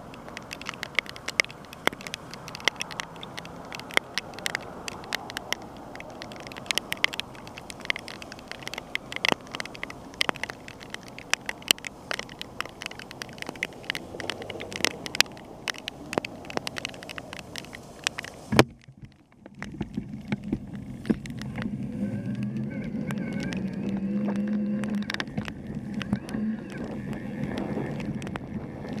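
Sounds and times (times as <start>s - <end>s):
bicycle tyres hissing on wet road: 0.0s - 18.6s, 20.0s - 29.0s
car engine humming: 0.0s - 29.0s
raindrops tapping on camera: 0.0s - 29.0s.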